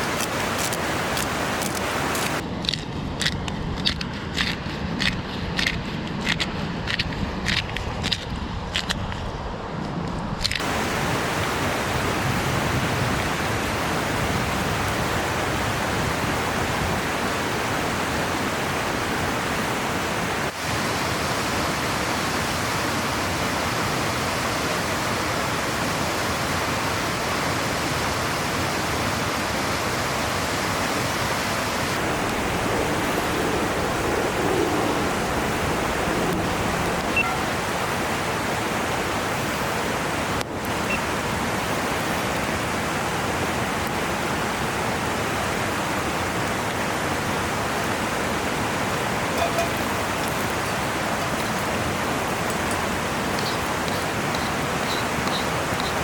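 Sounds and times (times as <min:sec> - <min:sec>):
river water rushing: 0:00.0 - 0:02.7, 0:10.6 - 0:56.0.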